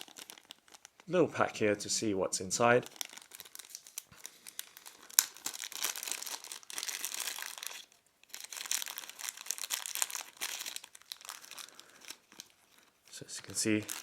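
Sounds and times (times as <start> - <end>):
packaging crinkling: 0.0 - 1.2, 2.6 - 14.0.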